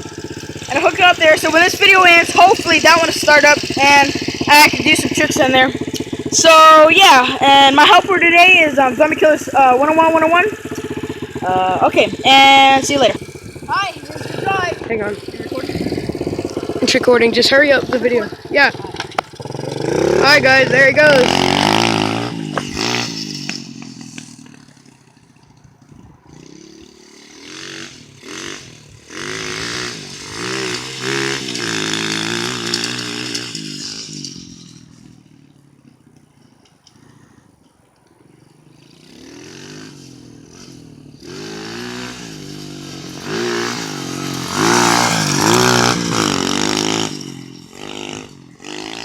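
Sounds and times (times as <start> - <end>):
dirt bike engine revving: 0.0 - 37.2, 38.3 - 49.0.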